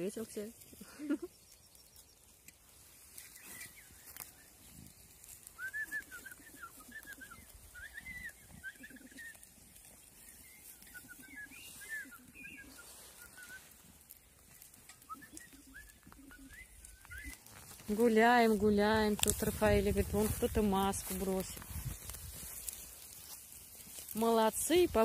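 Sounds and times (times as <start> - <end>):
songbird chirping faintly: 0.0 - 25.0.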